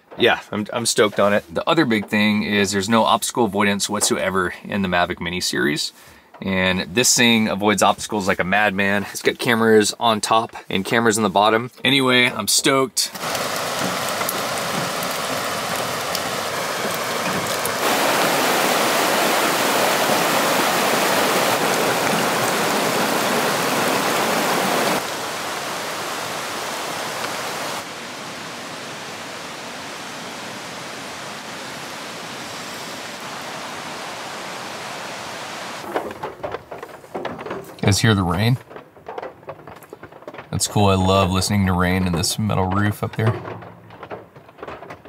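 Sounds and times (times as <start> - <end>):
rain drumming on metal roof: 0.0 - 4.5, 10.3 - 34.1, 34.8 - 45.0
steady rain hiss: 0.2 - 35.9, 37.8 - 38.6, 40.6 - 43.4.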